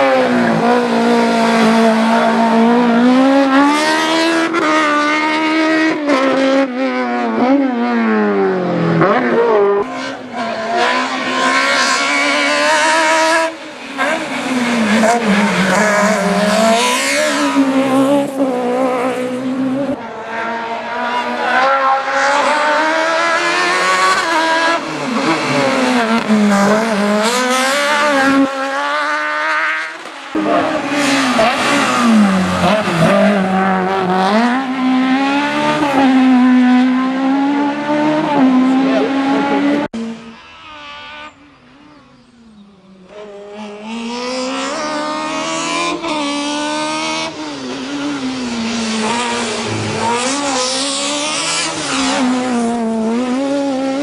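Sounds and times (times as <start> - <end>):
racing car engine revving: 0.0 - 41.4, 43.0 - 54.0.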